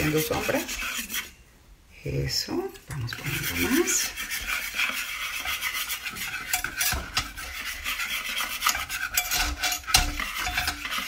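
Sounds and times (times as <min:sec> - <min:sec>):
whisk scraping a glass bowl: 0:00.0 - 0:01.4, 0:02.9 - 0:11.0.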